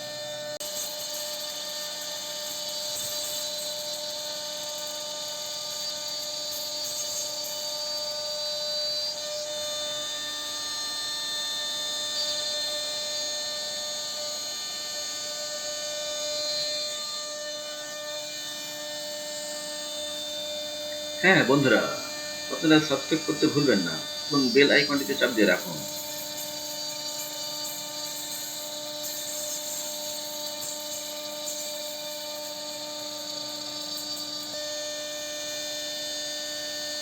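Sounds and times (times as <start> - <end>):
hiss of cutting wood: 0.0 - 12.8, 17.0 - 37.0
router spindle whine: 0.0 - 37.0.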